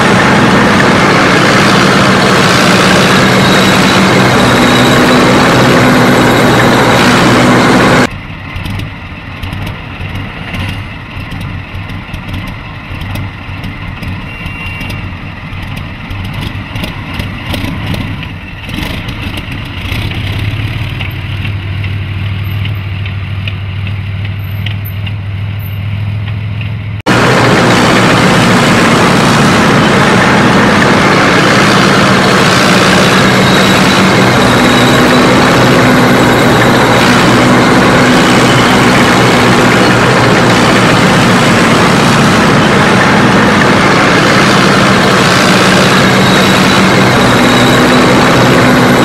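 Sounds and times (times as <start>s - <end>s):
low engine rumble: 0.0s - 49.0s
tank engine and tracks: 0.0s - 49.0s.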